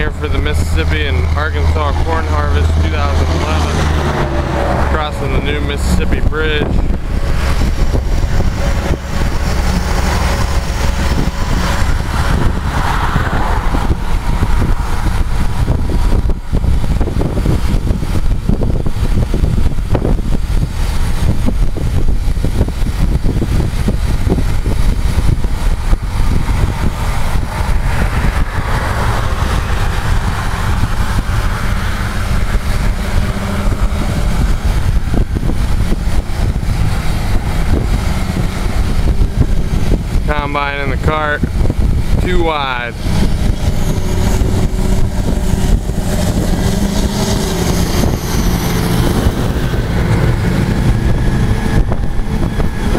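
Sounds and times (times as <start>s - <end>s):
engine and road rumble: 0.0s - 52.9s
tyre and wind hiss: 0.0s - 52.9s.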